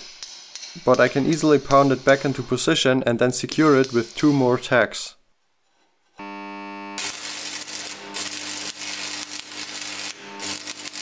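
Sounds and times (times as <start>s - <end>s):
steady welder hum: 0.0s - 4.8s, 5.6s - 11.0s
welding arc crackling: 0.0s - 4.8s, 6.2s - 11.0s.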